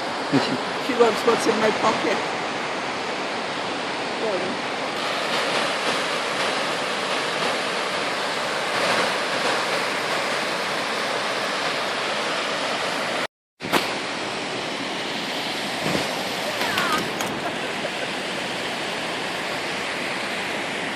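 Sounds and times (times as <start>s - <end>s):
waterfall roaring: 0.0s - 20.9s.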